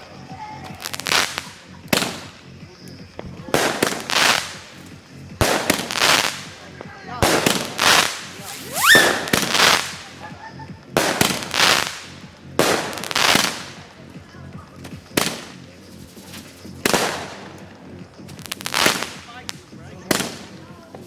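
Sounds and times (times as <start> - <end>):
firework bangs with echoing tail: 0.6 - 14.1, 14.8 - 21.0.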